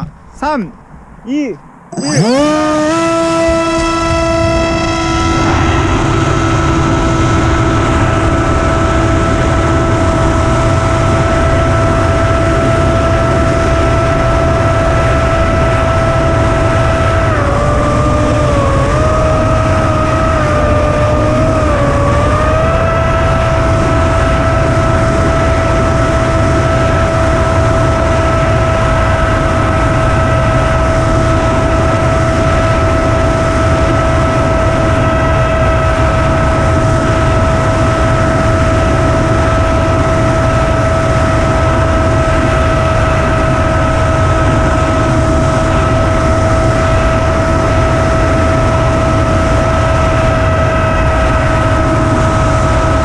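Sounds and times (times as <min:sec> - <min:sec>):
wind rumble on microphone: 0:00.0 - 0:53.0
electric motor and propeller whine: 0:01.8 - 0:53.0.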